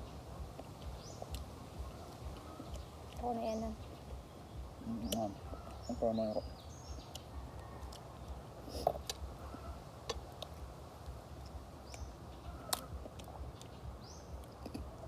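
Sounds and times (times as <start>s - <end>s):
bird chirping: 0.0s - 15.0s
low steady background noise: 0.0s - 15.0s.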